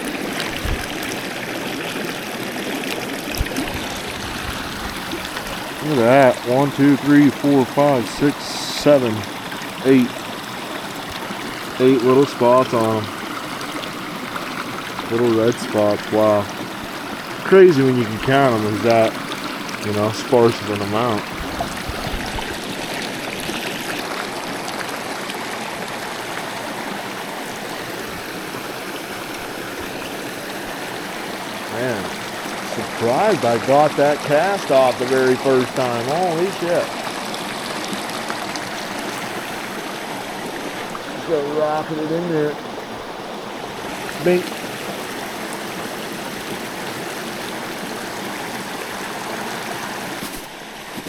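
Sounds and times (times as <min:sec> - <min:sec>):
stream water over rocks: 0:00.0 - 0:51.0.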